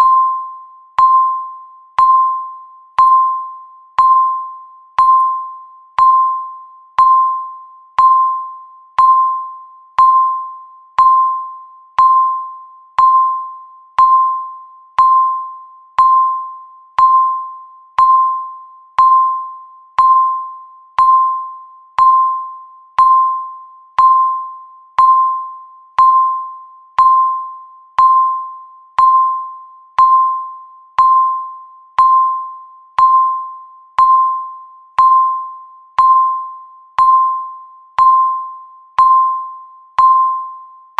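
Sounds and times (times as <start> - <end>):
timer electronic beep: 0.0 - 40.9.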